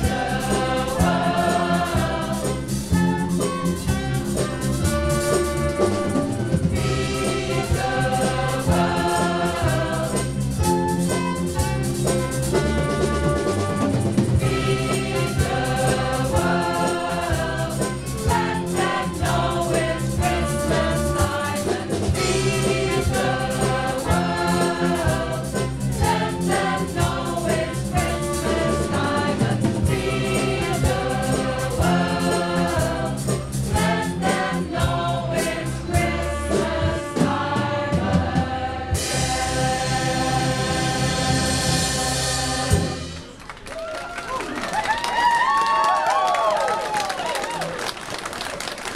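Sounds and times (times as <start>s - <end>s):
choir singing: 0.0s - 11.8s, 12.5s - 43.2s
drums: 0.0s - 47.6s.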